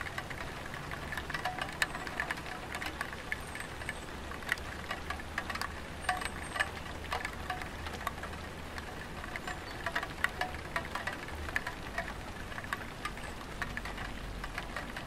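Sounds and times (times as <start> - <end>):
faint rain hiss: 0.0 - 15.0
rain drips on tiled roof: 0.0 - 15.0.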